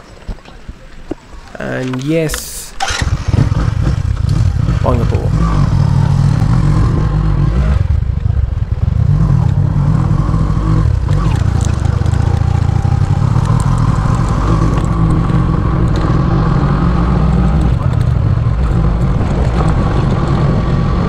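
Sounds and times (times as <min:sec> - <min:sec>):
motorcycle engine running: 0:02.8 - 0:21.0.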